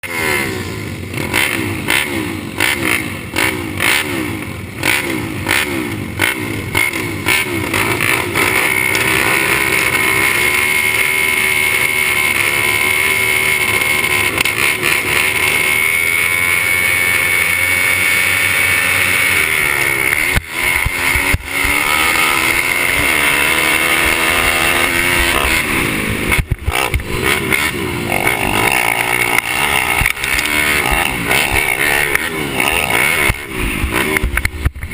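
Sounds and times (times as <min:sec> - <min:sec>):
pit bike engines revving: 0:00.0 - 0:34.9.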